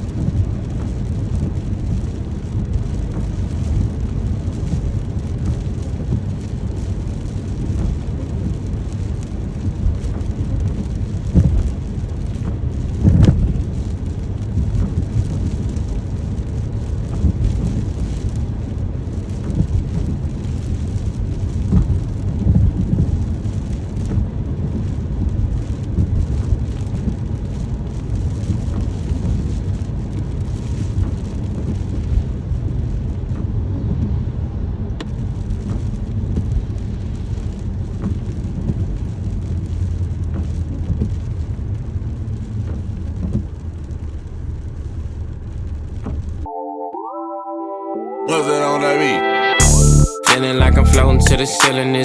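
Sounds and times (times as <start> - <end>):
steady rain: 0.0 - 46.5.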